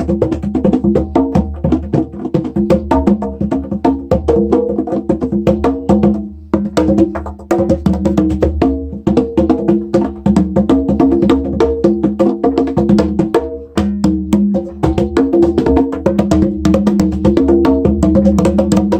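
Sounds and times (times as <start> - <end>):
conga drums playing fast: 0.0 - 18.9.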